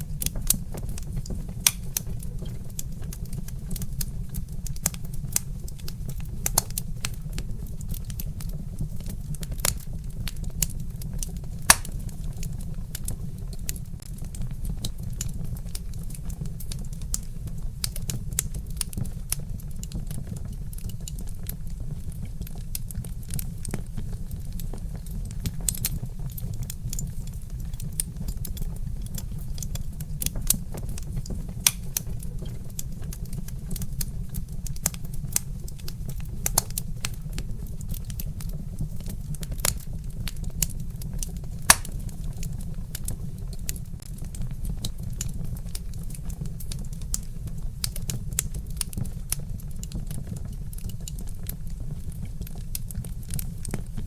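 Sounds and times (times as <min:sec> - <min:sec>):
log fire crackling and popping: 0:00.0 - 0:54.0.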